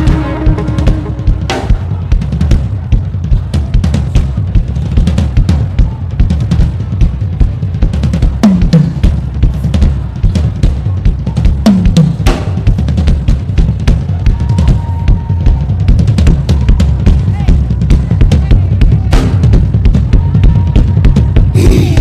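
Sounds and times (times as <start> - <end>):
band playing without singing: 0.0 - 22.0
drum kit: 0.0 - 22.0
heavy bass line: 0.0 - 22.0.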